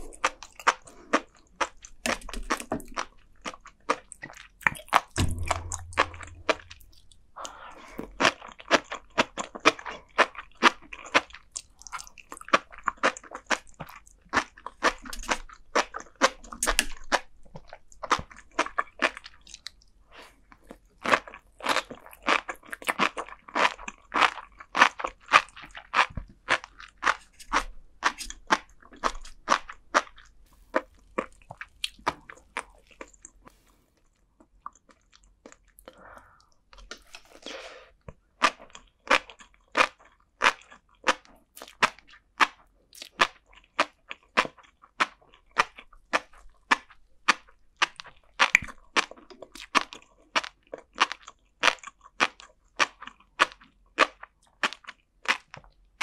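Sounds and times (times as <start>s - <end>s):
close chewing with crisp popping: 0.0s - 56.0s.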